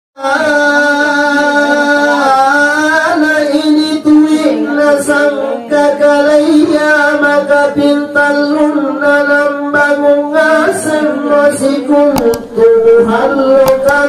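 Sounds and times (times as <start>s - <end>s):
person chanting: 0.2s - 14.0s.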